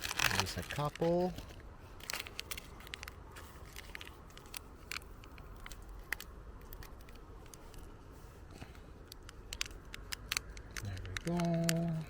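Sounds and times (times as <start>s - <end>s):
faint clicks and crackles: 0.0s - 12.0s
low steady rumble: 0.0s - 12.0s.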